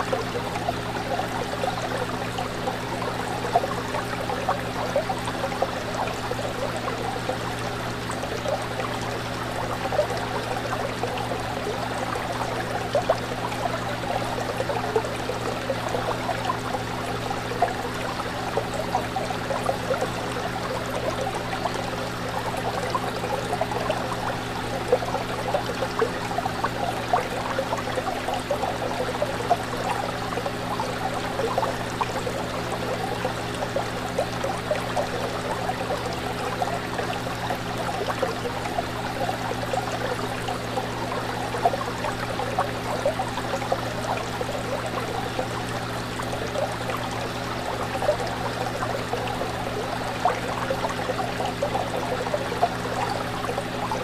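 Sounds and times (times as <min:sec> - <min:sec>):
aquarium water bubbling: 0:00.0 - 0:54.0.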